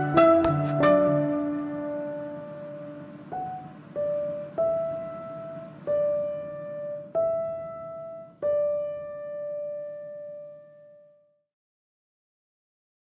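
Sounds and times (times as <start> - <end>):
slow piano notes: 0.0 - 11.4.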